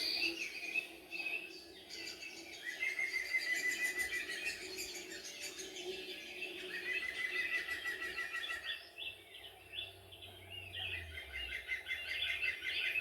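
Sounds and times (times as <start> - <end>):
songbirds singing and calling: 0.0 - 13.0.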